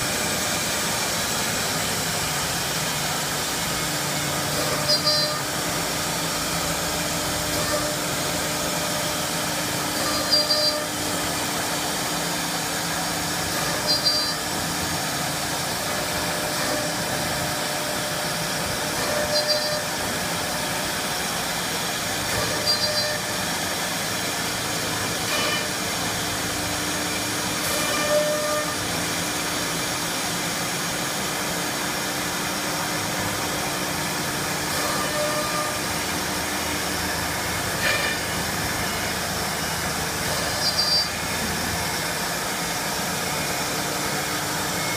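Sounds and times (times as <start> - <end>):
cnc router cutting board: 0.0 - 44.9.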